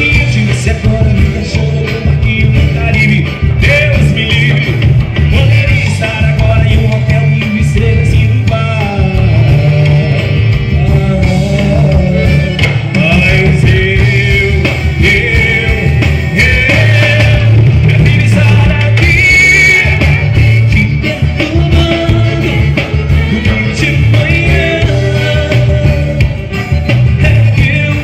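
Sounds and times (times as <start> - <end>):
band music with heavy beat: 0.0 - 28.0.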